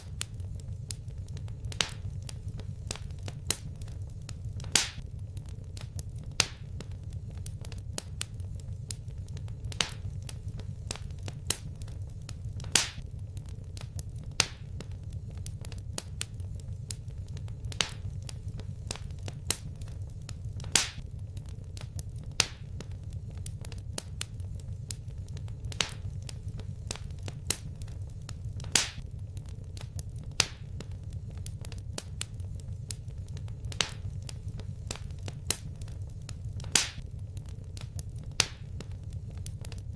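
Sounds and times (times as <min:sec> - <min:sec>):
fireplace fire crackling: 0:00.0 - 0:39.9
loud fire pops: 0:00.0 - 0:39.9
low fire rumble: 0:00.0 - 0:39.9.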